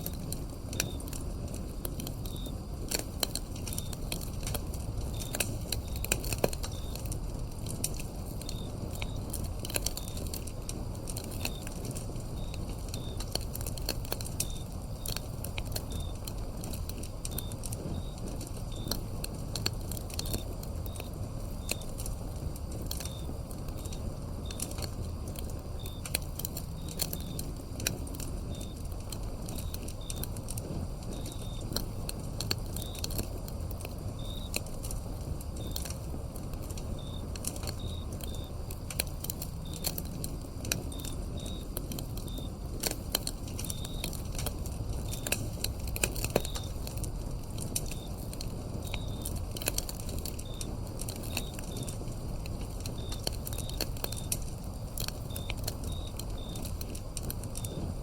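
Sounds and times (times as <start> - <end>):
crickets chirping: 0.0 - 58.0
wood fire crackling and popping: 0.0 - 58.0.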